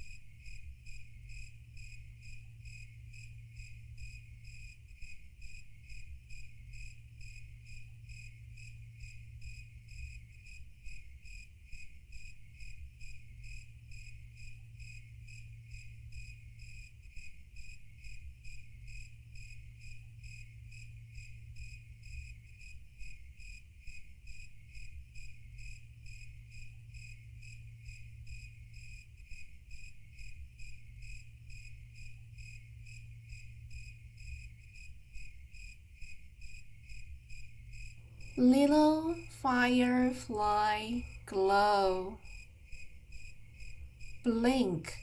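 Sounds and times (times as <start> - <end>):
cricket chirping: 0.0 - 38.4, 42.3 - 44.2.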